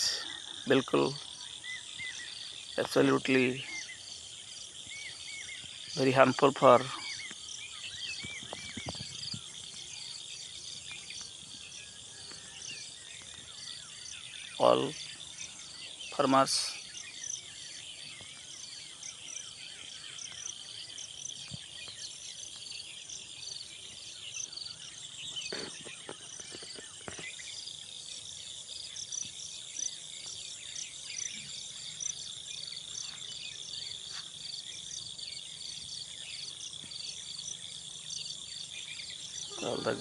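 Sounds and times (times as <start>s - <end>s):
insects chirping: 0.0s - 40.0s.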